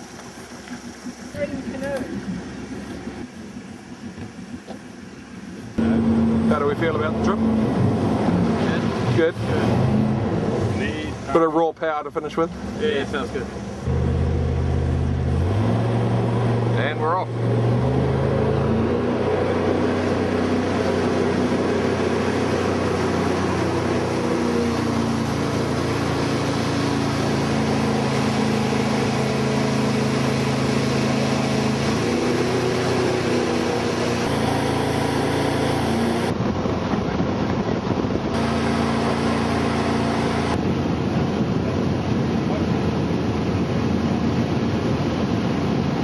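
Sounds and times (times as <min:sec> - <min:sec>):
boat engine drone: 0:00.0 - 0:46.0
rush of water and wind: 0:00.0 - 0:46.0.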